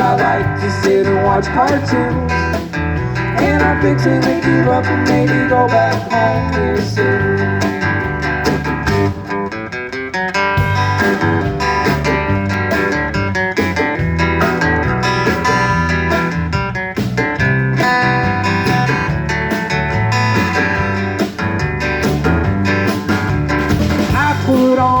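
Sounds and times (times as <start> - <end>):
bass line: 0.0 - 25.0
strummed acoustic guitar: 0.0 - 25.0.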